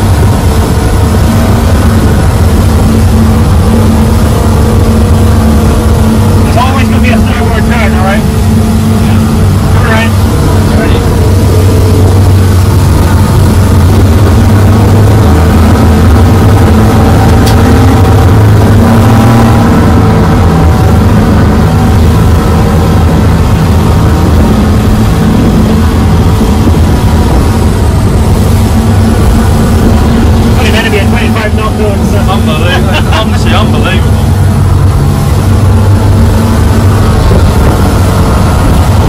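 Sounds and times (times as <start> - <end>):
outboard engines running: 0.0 - 39.0
water rushing along hull: 0.0 - 39.0.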